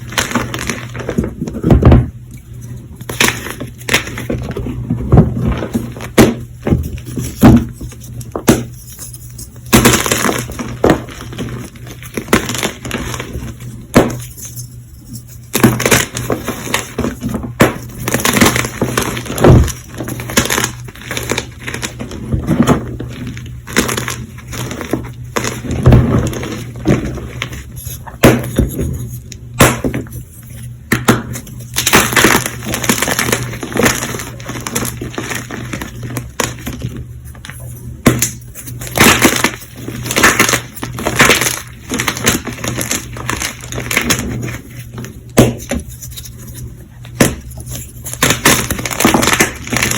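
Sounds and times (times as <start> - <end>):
chalk blocks being crushed: 0.0 - 2.1, 3.1 - 49.9.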